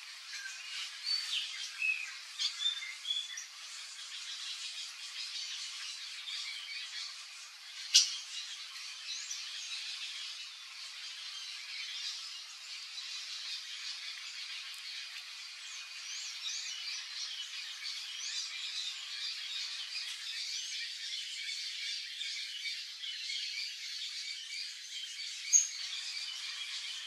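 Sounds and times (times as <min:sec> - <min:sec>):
birds chirping and squawking: 0:00.1 - 0:27.0.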